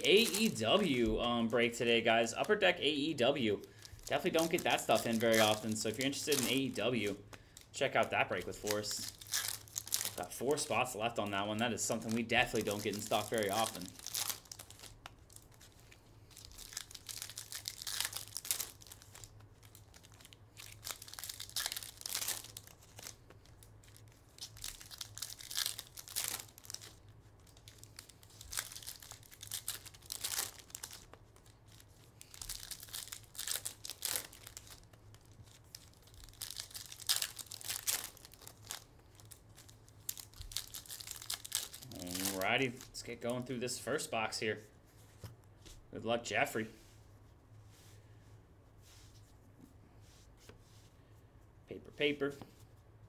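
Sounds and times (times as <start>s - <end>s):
wrappers tearing and crinkling: 0.0s - 43.6s.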